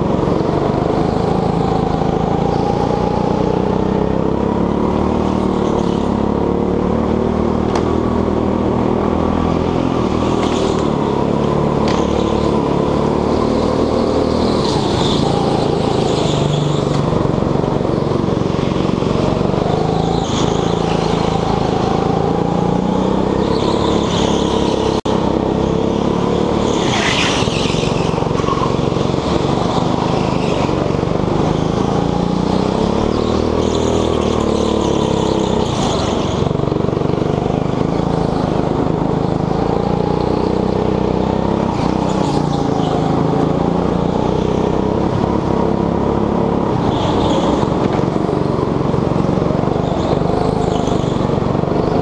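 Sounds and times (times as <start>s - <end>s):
go-kart engine revving: 0.0s - 52.0s.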